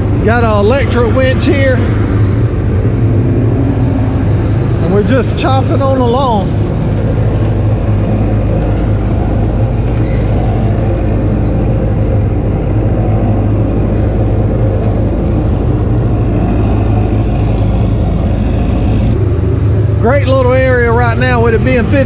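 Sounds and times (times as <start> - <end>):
boat engine running: 0.0 - 22.0
water rushing along hull: 0.0 - 22.0.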